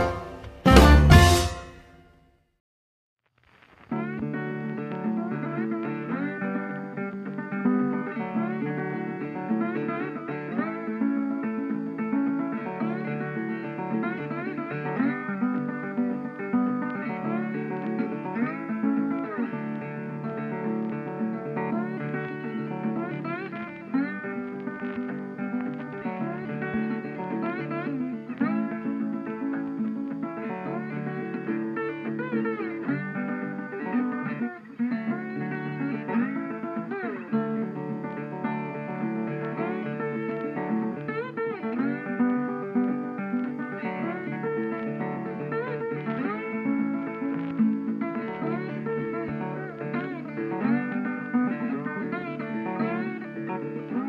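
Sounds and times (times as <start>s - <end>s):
acoustic guitar tune: 0.0s - 2.2s, 3.8s - 54.0s.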